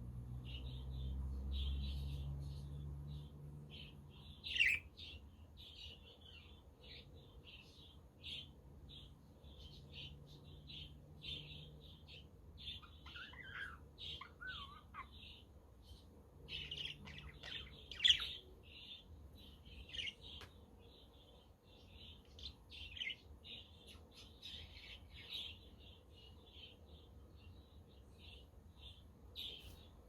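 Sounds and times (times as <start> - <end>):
loud sharp bird chirp: 0.4 - 30.0.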